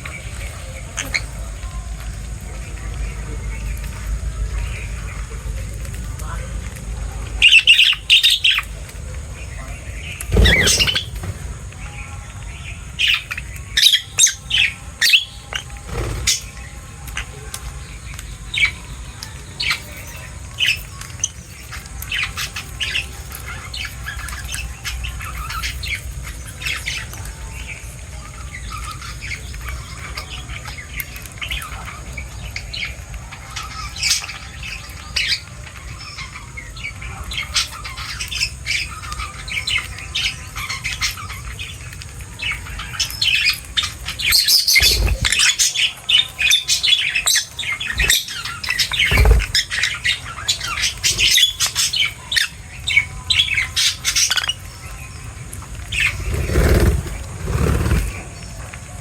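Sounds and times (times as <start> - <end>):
birds chirping and squawking: 6.7 - 55.2, 55.9 - 59.0.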